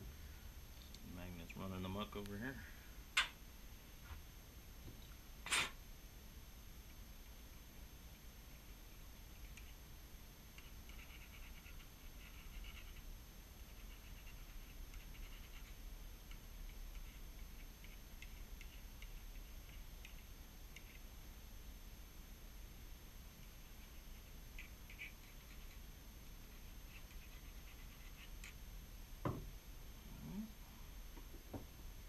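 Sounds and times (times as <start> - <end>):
low hum and hiss: 0.0 - 32.0.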